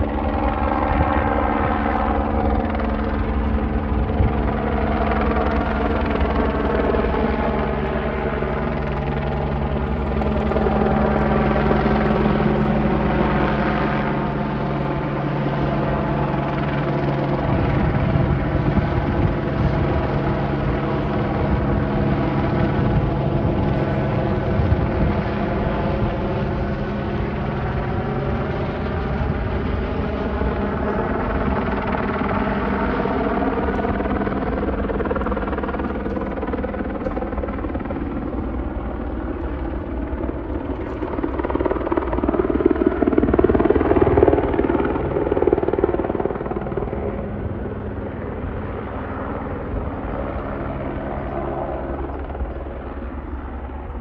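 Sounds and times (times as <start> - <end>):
helicopter flying over: 0.0 - 54.0.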